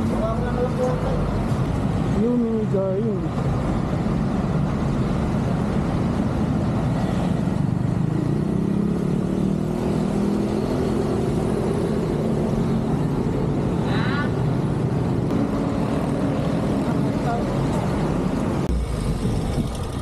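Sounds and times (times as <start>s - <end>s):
low traffic rumble: 0.0s - 20.0s
vehicle engine humming: 0.0s - 20.0s.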